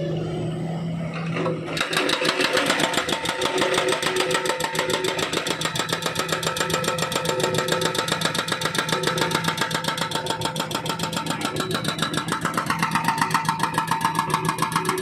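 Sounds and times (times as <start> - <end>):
diesel engine running: 0.0 - 15.0
hydraulic breaker hammering asphalt: 1.4 - 15.0.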